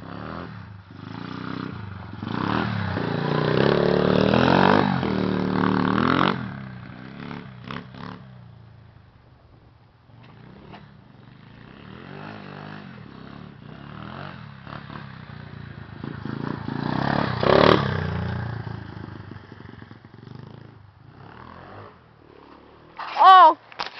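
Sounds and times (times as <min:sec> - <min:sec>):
motorbike engine passing by: 0:00.0 - 0:08.5, 0:10.2 - 0:23.6.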